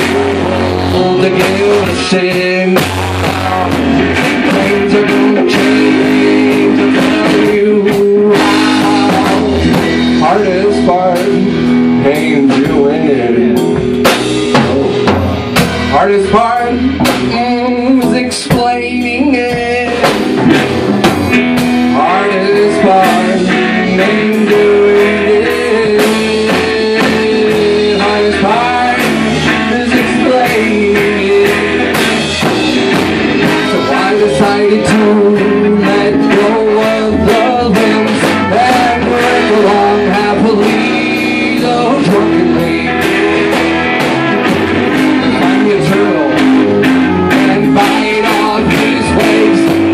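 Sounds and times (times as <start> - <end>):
drum kit: 0.0 - 49.9
electric guitar: 0.0 - 49.9
lead melody line: 0.0 - 49.9.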